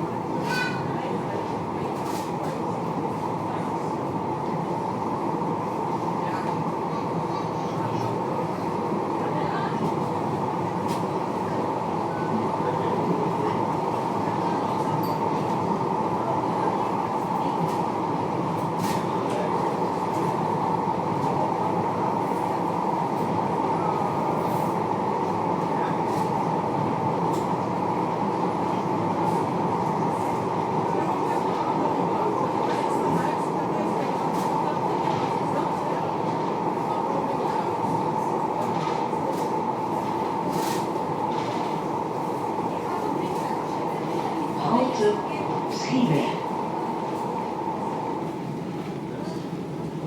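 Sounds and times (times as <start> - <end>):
tram wheels running on rails: 0.0 - 50.0.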